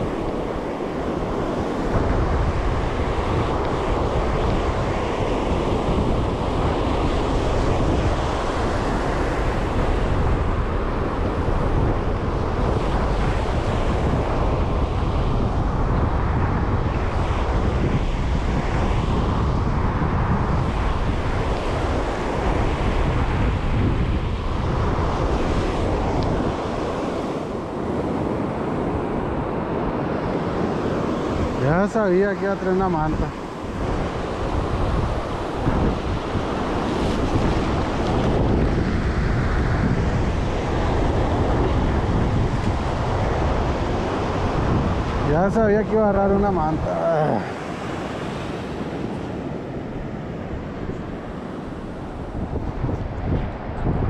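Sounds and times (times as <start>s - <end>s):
surf breaking on sand: 0.0s - 54.0s
wind buffeting microphone: 0.0s - 54.0s.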